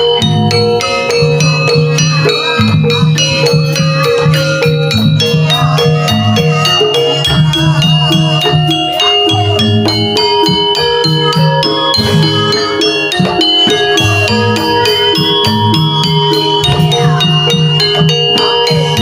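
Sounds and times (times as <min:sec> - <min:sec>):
drum strokes: 0:00.0 - 0:19.0
metallophone notes: 0:00.0 - 0:19.0
rattling clicking percussion: 0:00.0 - 0:19.0.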